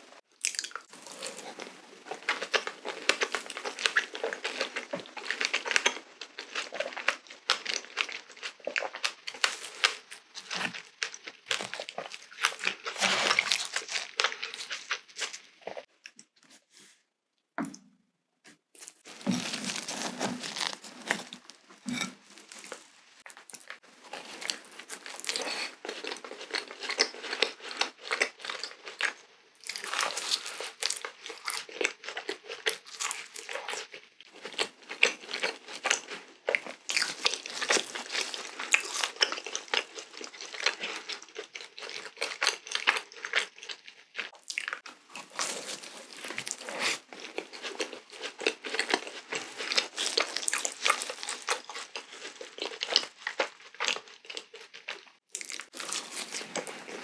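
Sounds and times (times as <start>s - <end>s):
wet crackly chewing: 0.2s - 16.3s, 18.8s - 57.0s.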